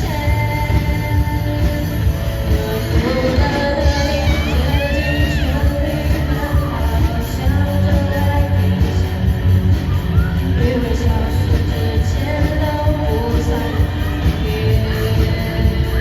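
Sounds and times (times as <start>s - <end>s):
live pop-rock band: 0.0s - 16.0s
person singing: 0.0s - 16.0s.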